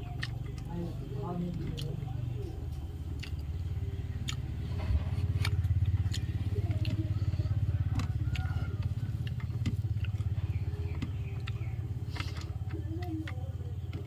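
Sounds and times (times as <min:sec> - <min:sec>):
engine running with pulsing rumble: 0:00.0 - 0:14.0.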